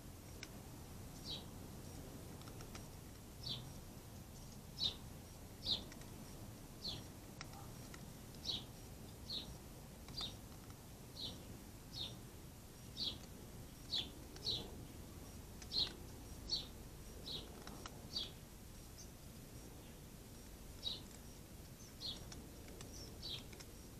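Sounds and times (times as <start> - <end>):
faint outdoor background noise: 0.0 - 23.9
small bird chirping: 0.2 - 23.9.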